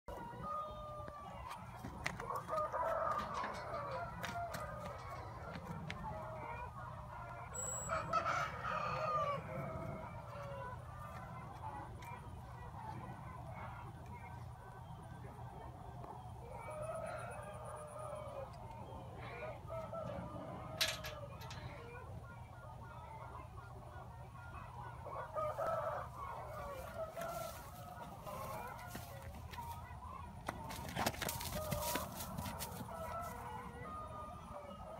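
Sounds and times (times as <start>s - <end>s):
chickens clucking: 0.1s - 34.9s
farmyard fowl calling: 0.1s - 34.9s.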